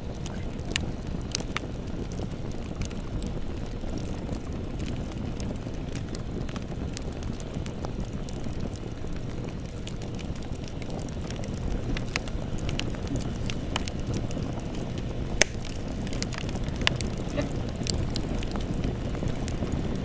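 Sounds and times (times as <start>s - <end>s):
burning wood crackling and popping: 0.0s - 20.0s
campfire rumble: 0.0s - 20.0s.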